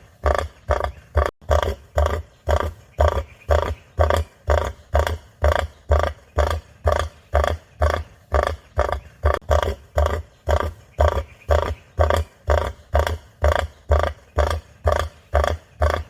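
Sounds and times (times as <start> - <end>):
cassowary deep calls: 0.0 - 16.0.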